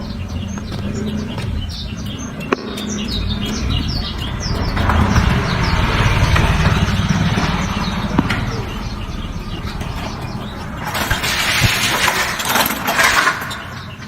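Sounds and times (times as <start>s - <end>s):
canary singing high chirps: 0.0s - 12.6s
steady low rumble: 0.0s - 12.8s.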